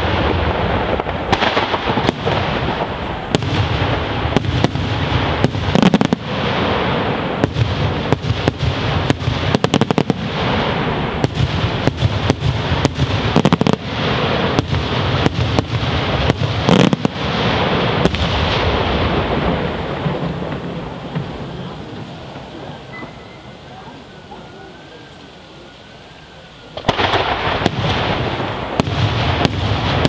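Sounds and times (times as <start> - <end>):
firework bangs: 0.0 - 30.0
firework crackling: 0.0 - 30.0.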